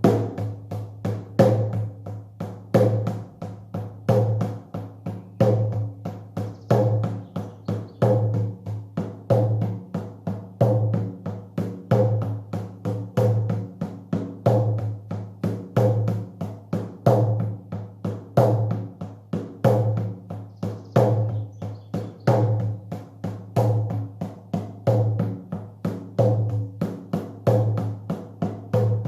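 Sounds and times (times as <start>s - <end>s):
drum beaten in steady rhythm: 0.0s - 29.0s.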